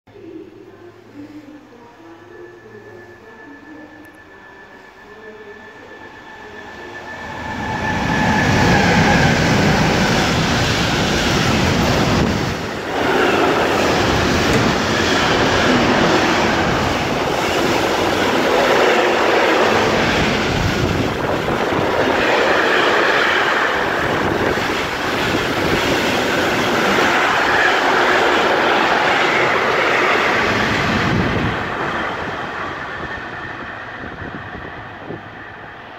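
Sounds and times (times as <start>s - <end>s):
freight train passing: 1.6s - 35.9s.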